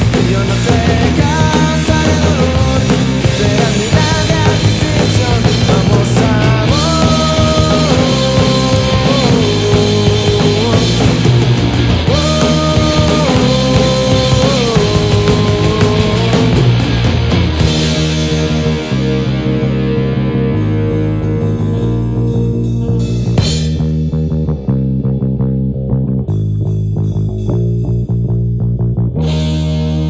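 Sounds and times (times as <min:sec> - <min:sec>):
melodic lead line: 0:00.0 - 0:24.4
rock band playing: 0:00.0 - 0:30.0.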